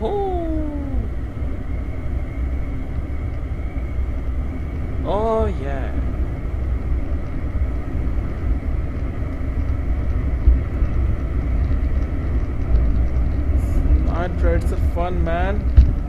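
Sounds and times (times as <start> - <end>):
motorcycle engine at speed: 0.0 - 16.0
wind buffeting microphone: 0.0 - 16.0.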